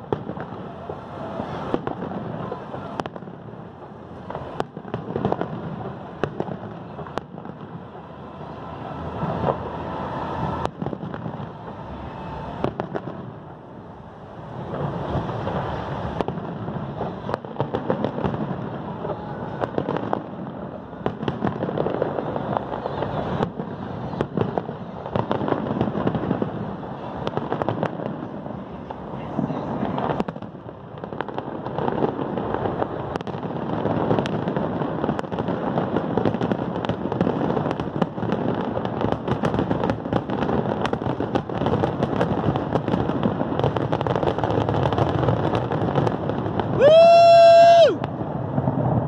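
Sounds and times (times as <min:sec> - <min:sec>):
fireworks bangs and crackles: 0:00.0 - 0:49.0
fireworks rumble: 0:00.0 - 0:49.0.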